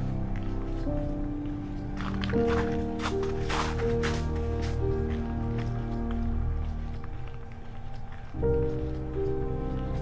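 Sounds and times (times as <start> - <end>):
music of sustained notes: 0.0 - 10.0.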